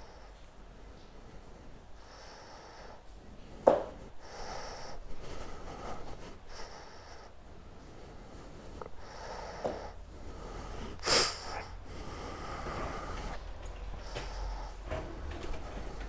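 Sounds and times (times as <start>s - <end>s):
heavy breathing: 0.0s - 16.0s.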